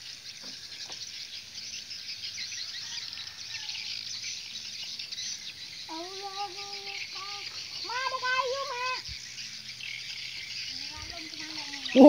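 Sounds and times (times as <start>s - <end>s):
insects and birds chirping: 0.0s - 12.0s.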